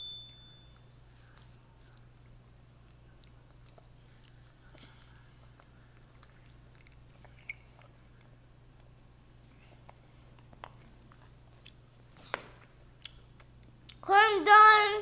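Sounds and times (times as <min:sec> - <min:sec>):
low steady hum: 0:00.0 - 0:15.0
child chewing: 0:01.2 - 0:09.0, 0:09.6 - 0:14.1.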